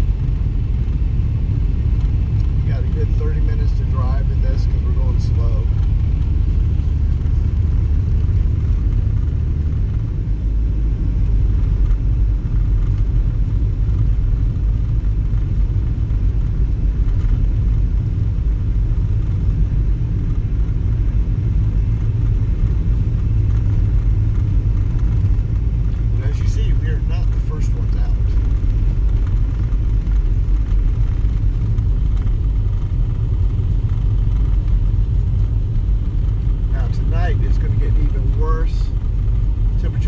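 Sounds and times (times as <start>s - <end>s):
car engine drone: 0.0s - 40.0s.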